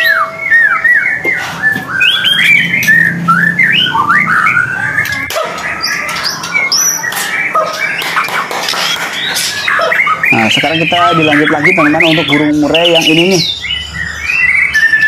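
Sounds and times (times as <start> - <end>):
bird singing whistled notes: 0.0 - 8.1, 8.8 - 15.0.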